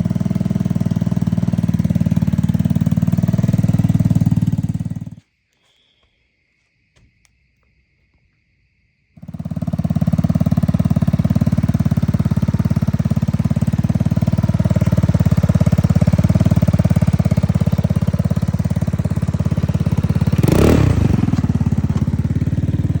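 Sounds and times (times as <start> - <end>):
scooter engine running: 0.0 - 5.2, 9.2 - 23.0.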